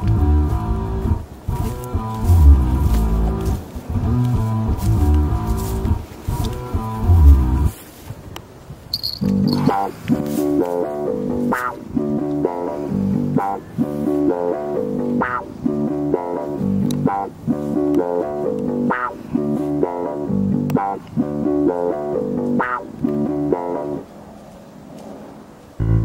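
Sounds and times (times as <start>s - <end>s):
plucked-string music over bass: 0.0s - 7.7s, 9.3s - 24.0s, 25.8s - 26.0s.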